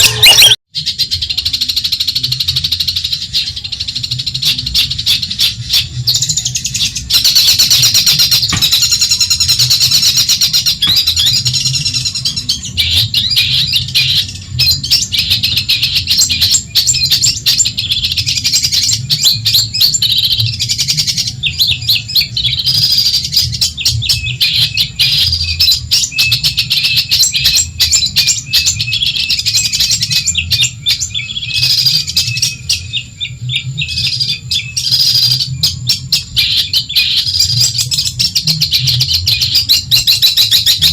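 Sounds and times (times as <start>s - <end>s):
bird chattering song: 0.0s - 40.9s.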